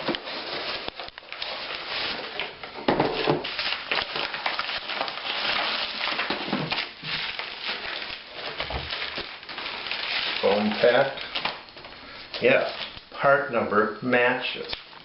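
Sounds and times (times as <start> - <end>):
foam and cardboard rustling: 0.0 - 12.9.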